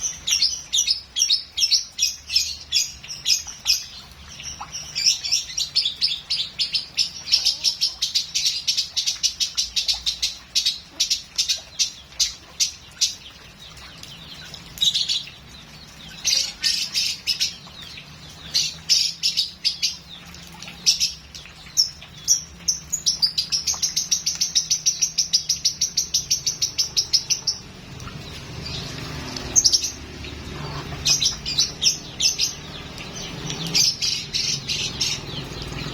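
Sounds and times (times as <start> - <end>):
lovebird singing: 0.0 - 35.9.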